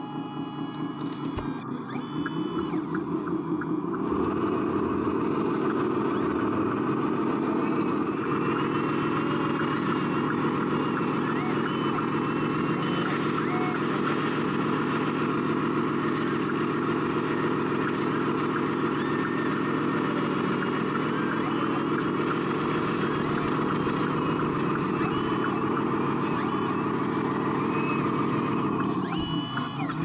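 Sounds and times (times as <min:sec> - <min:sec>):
toy truck diesel engine idling: 0:00.0 - 0:30.0.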